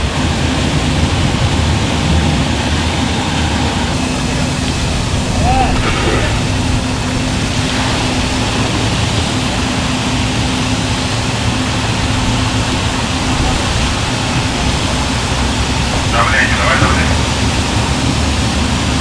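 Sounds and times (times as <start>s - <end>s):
boat engine humming: 0.0s - 19.0s
rush of wind and water: 0.0s - 19.0s.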